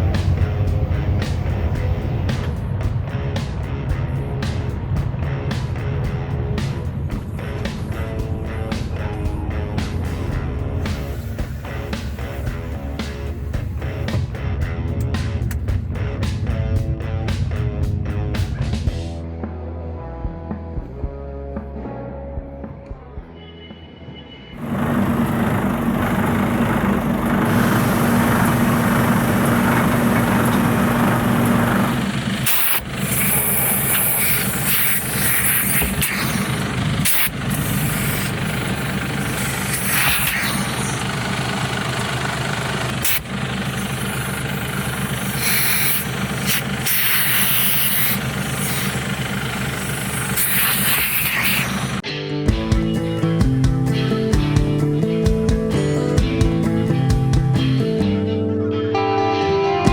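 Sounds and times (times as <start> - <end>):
diesel truck engine running: 0.0 - 19.0, 24.6 - 58.4.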